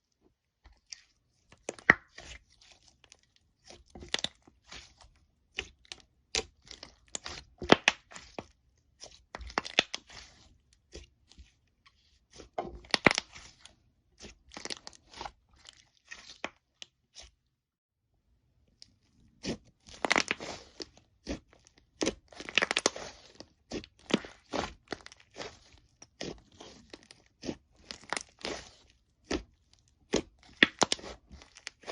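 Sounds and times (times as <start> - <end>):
crunchy slime crackling: 0.8 - 17.3, 19.0 - 31.9.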